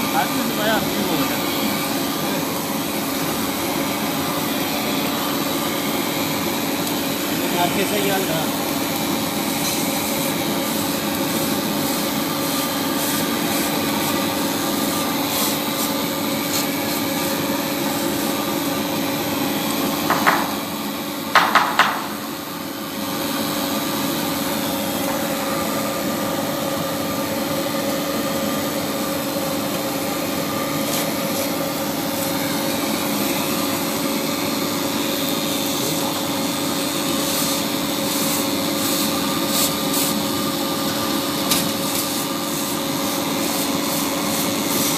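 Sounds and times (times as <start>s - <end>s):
welding machine humming and hissing: 0.0s - 44.9s.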